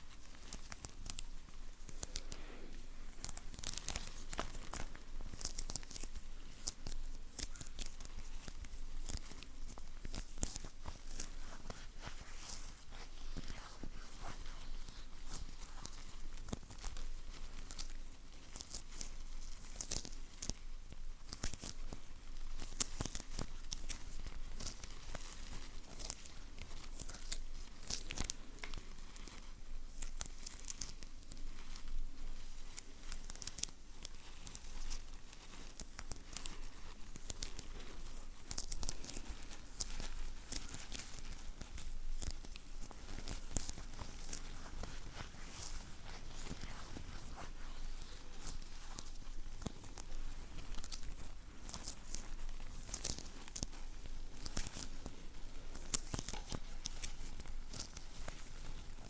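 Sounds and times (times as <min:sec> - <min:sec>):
sticky material crackling and peeling: 0:00.0 - 0:59.0.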